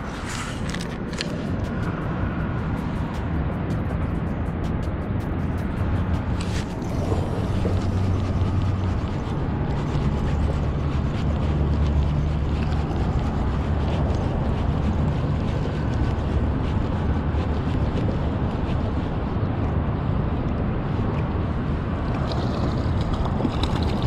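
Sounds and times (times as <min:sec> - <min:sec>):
highway traffic rumble: 0:00.0 - 0:24.0
passing vehicles humming: 0:00.0 - 0:24.0.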